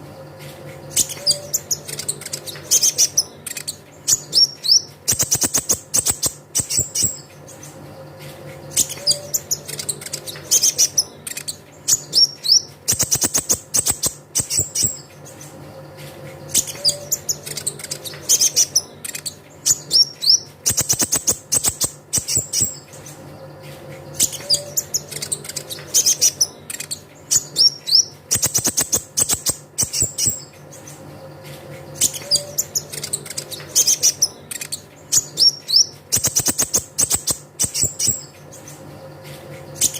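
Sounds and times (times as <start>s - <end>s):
sunbird trills and chirps: 0.8s - 7.8s, 8.6s - 15.5s, 16.4s - 23.1s, 24.1s - 39.9s.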